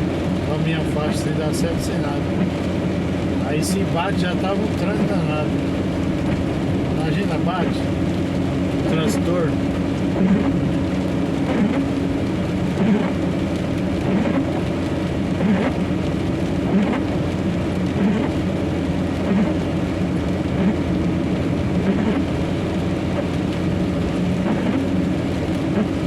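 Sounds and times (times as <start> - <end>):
heavy rain: 0.0 - 26.0
truck engine running: 0.0 - 26.0.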